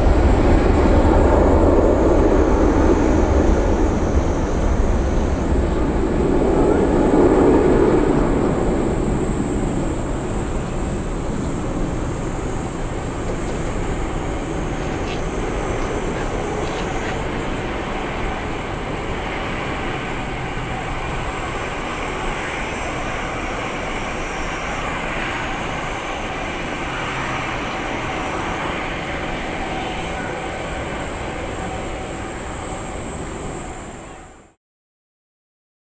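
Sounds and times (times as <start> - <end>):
jet engines at takeoff thrust: 0.0 - 34.6.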